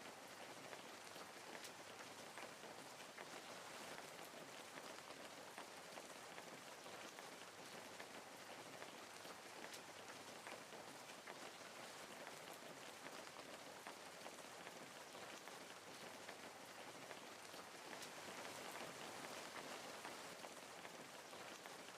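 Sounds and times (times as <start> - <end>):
faint steady hiss with soft ticks: 0.0 - 21.9.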